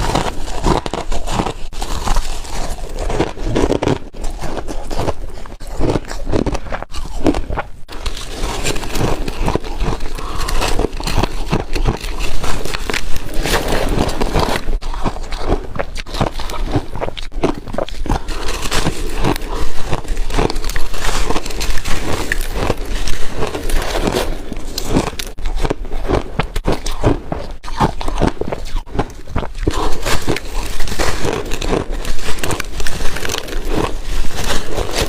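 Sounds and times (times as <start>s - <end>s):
person crunching ice: 0.0s - 35.0s.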